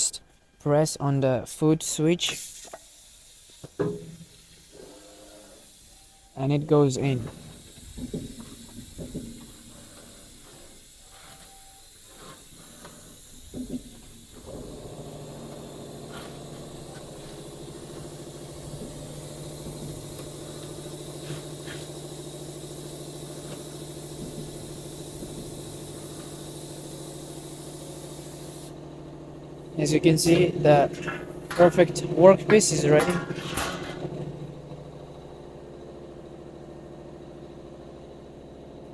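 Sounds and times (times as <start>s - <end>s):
low machine hum: 3.9s - 38.9s.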